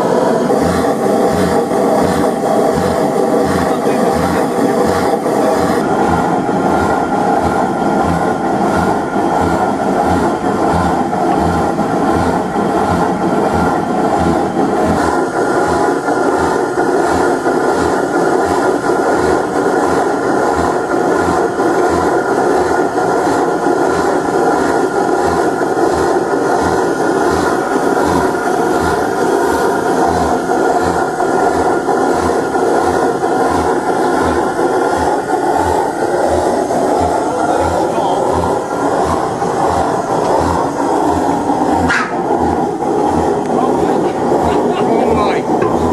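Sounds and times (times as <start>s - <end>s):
slow-running stationary engine thudding: 0.0s - 45.9s.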